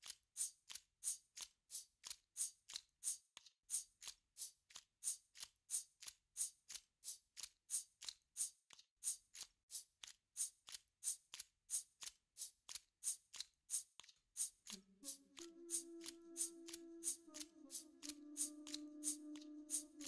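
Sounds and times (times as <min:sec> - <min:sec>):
hand percussion rattling strokes: 0:00.0 - 0:20.0.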